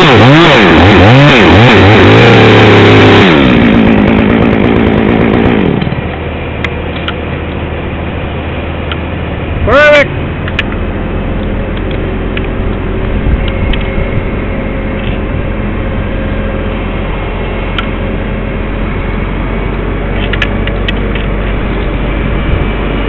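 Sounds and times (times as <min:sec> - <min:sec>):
crane engine running: 0:00.0 - 0:23.0.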